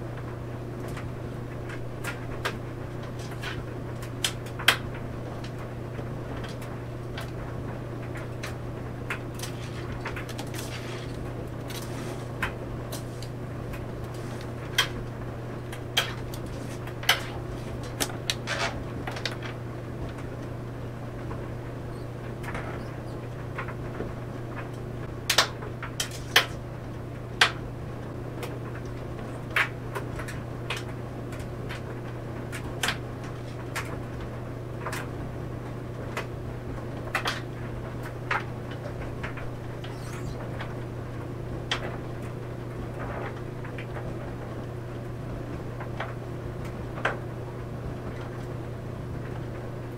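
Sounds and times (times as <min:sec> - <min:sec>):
clothes dryer humming: 0:00.0 - 0:49.9.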